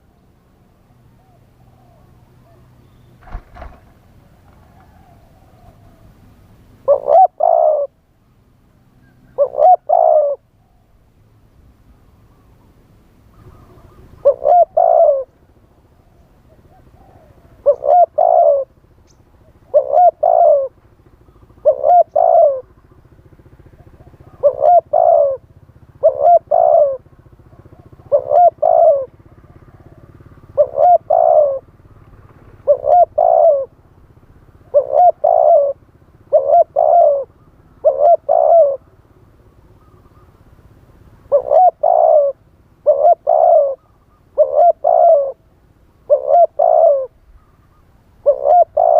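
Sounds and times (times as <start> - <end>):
faint low background rumble: 0.0 - 48.9
dove cooing: 1.0 - 8.0, 8.9 - 11.0, 12.2 - 40.5, 41.1 - 48.9.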